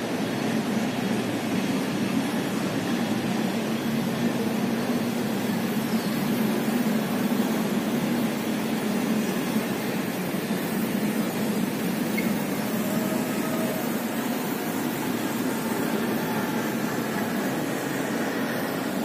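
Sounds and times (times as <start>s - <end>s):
hall background hum and hiss: 0.0s - 19.0s.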